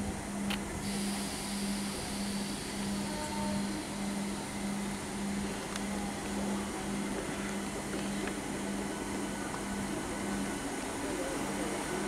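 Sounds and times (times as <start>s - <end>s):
train electrics humming: 0.0s - 12.0s
background hiss: 0.3s - 12.0s.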